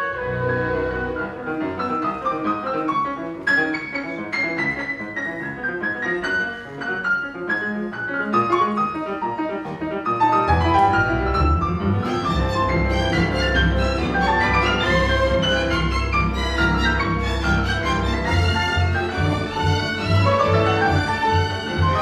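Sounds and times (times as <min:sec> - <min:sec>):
piano playing quick runs: 0:00.0 - 0:22.0
string orchestra: 0:00.0 - 0:22.0.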